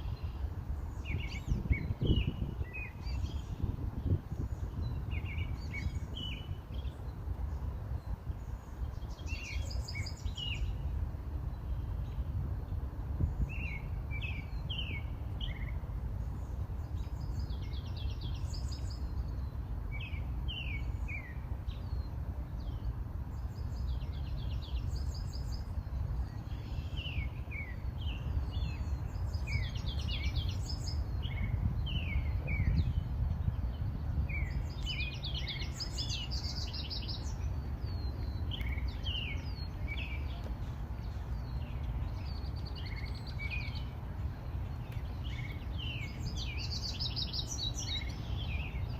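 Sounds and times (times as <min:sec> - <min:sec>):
songbirds chirping and singing: 0:00.0 - 0:48.9.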